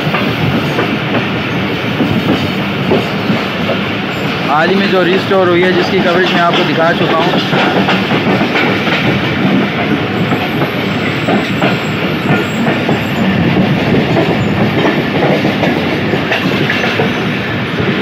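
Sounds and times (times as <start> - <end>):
clickety-clack over rail joints: 0.0 - 18.0
train wheels rumbling on rails: 0.0 - 18.0.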